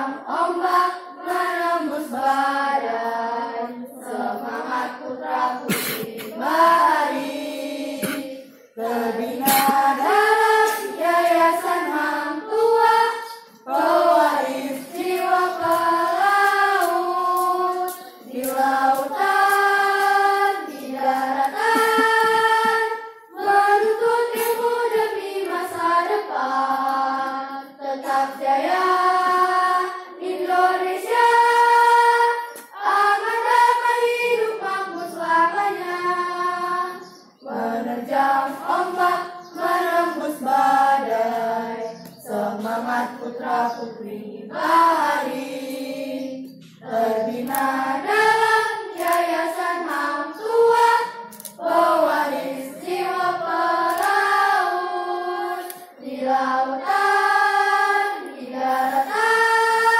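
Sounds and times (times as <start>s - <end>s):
children singing together: 0.0s - 59.9s.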